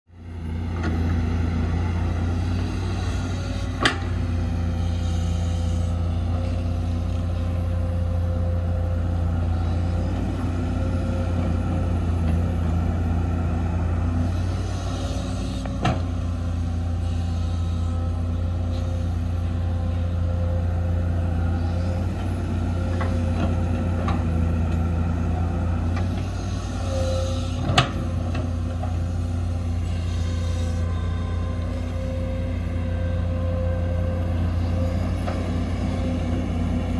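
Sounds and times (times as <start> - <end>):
excavator diesel engine running: 0.1 - 36.9.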